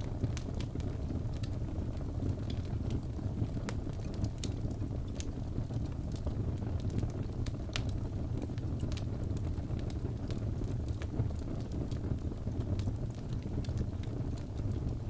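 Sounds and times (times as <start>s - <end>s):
burning wood crackling and popping: 0.0s - 15.0s
fire rumbling: 0.0s - 15.0s.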